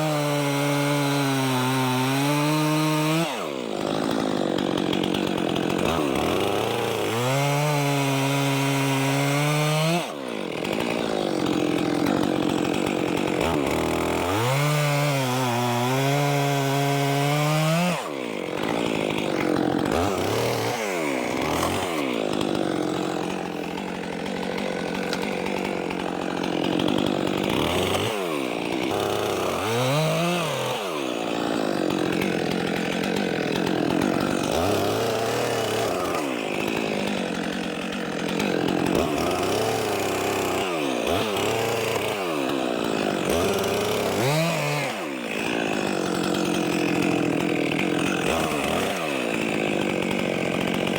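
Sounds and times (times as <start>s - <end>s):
chainsaw cutting logs: 0.0s - 50.9s.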